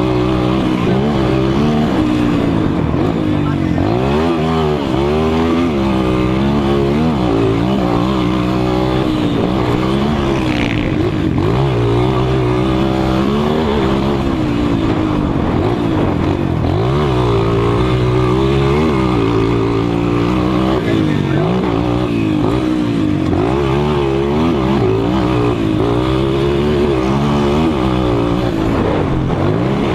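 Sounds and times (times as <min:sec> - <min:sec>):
motocross bikes revving: 0:00.0 - 0:29.9.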